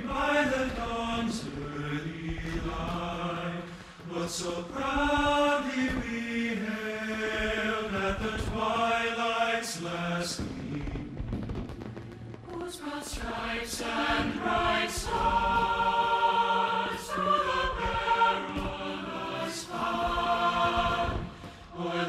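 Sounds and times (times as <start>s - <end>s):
choir singing held chords: 0.0s - 11.7s, 12.4s - 22.0s.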